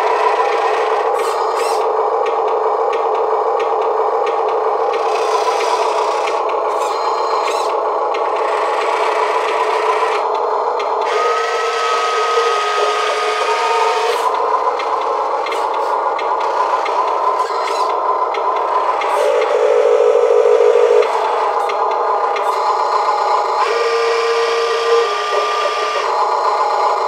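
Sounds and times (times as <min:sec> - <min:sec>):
toy truck motor buzzing and whirring: 0:00.0 - 0:01.9, 0:04.8 - 0:27.0
thin motor whine: 0:00.0 - 0:27.0.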